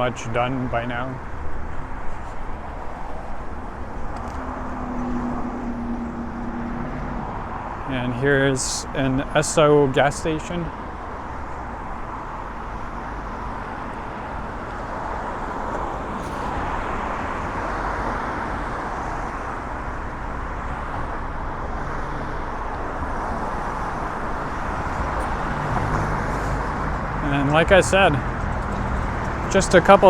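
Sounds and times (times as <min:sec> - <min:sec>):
cars and tyres passing: 0:00.0 - 0:30.0.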